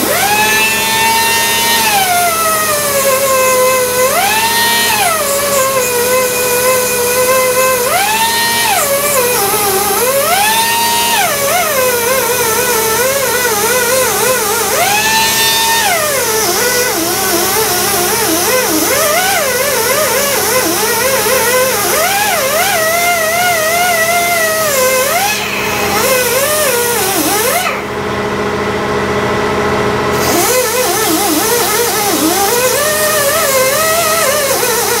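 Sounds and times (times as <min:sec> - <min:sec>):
air die grinder whining on metal: 0:00.0 - 0:35.0.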